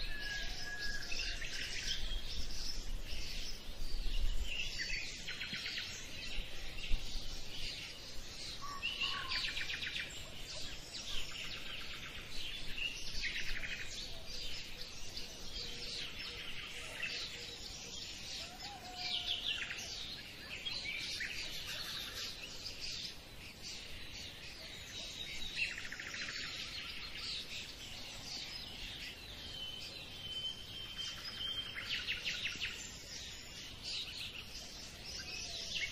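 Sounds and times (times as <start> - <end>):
small birds chirping and trilling: 0.0 - 35.9.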